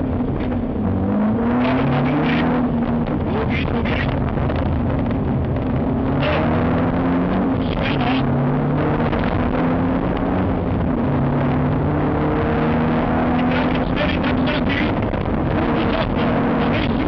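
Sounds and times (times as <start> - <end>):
car engine revving: 0.0 - 17.0
tyre and road noise: 0.0 - 17.0.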